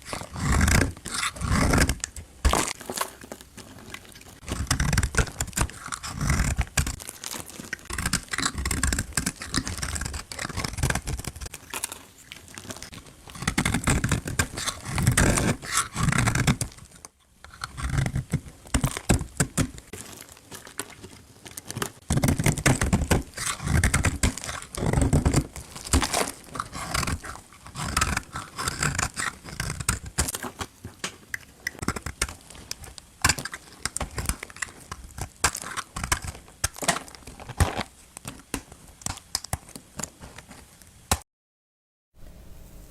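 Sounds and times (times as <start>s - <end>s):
blade scraping bar soap: 0.0s - 20.0s, 20.9s - 30.7s, 31.4s - 40.7s.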